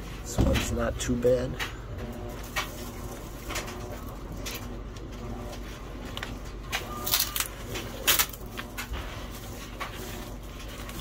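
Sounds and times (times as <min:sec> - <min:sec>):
furnace filter scraping and rustling: 0:00.0 - 0:11.0
steady low hum: 0:00.0 - 0:11.0.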